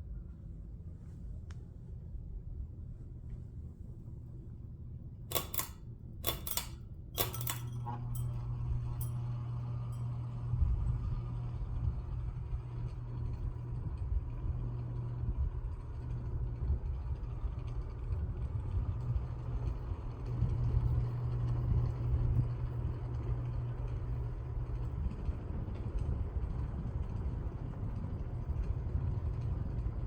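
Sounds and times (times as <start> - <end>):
ceiling fan motor humming: 0.0 - 30.0.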